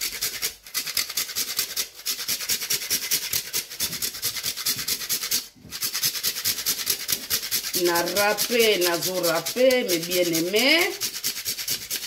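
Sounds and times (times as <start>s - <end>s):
nutmeg rasping on grater: 0.0s - 12.0s.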